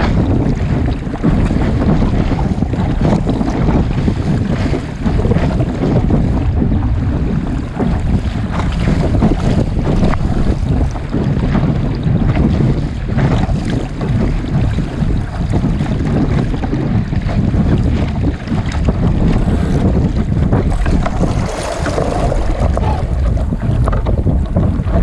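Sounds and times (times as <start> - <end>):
water splashing along hull: 0.0 - 25.0
wind buffeting microphone: 0.0 - 25.0.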